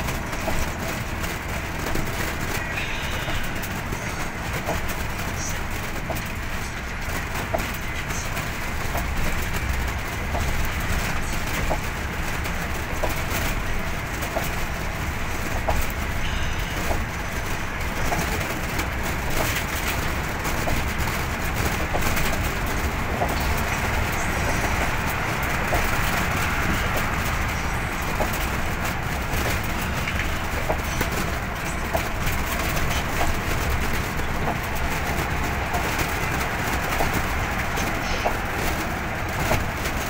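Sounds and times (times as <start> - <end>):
road and engine noise in cabin: 0.0 - 40.0.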